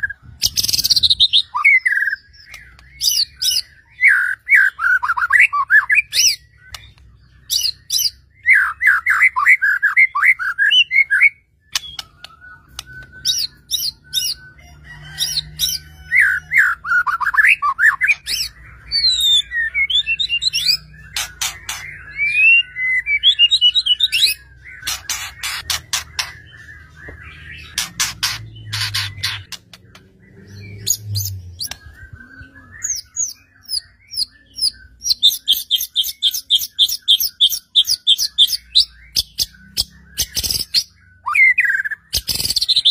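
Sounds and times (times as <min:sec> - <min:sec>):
bird singing whistled song: 0:00.0 - 0:42.9.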